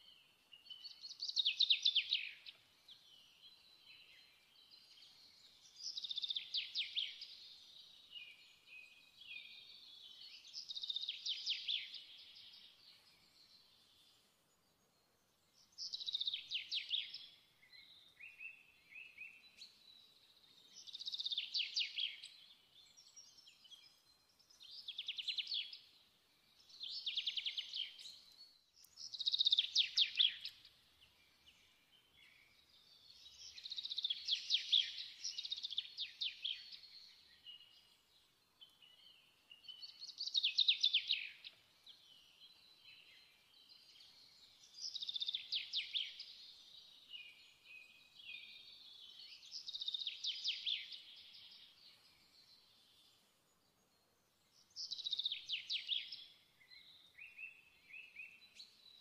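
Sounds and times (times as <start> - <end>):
songbird singing trilled phrases: 0.0 - 14.2, 15.6 - 59.0.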